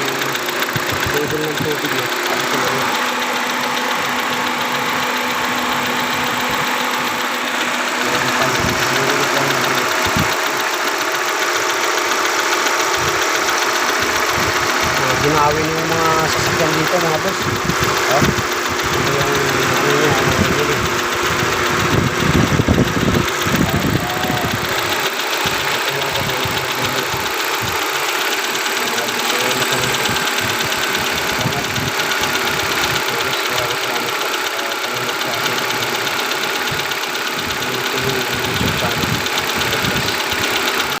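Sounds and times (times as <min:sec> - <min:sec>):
misfiring car engine idling: 0:00.0 - 0:41.0.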